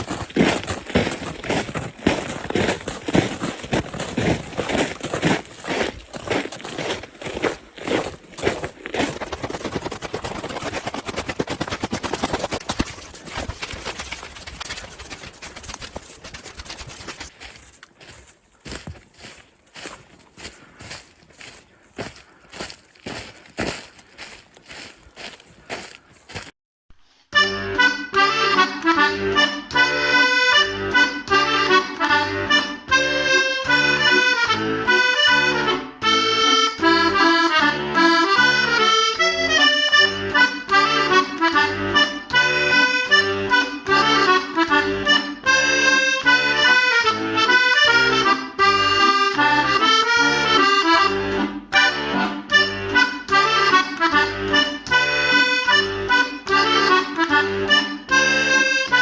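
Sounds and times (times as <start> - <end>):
accordion music: 0.0 - 25.4, 27.3 - 59.0.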